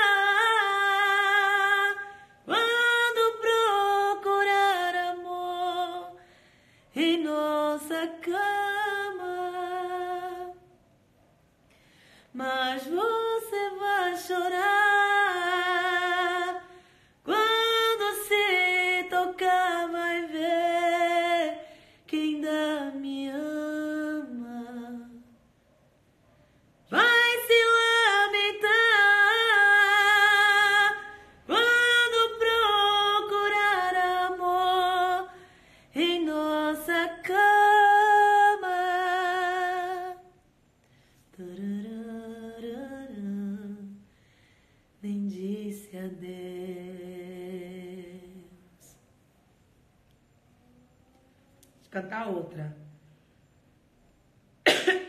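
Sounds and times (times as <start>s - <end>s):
woman singing a cappella: 0.0s - 10.8s, 12.3s - 25.4s, 26.8s - 40.5s, 41.3s - 44.2s, 44.9s - 49.1s.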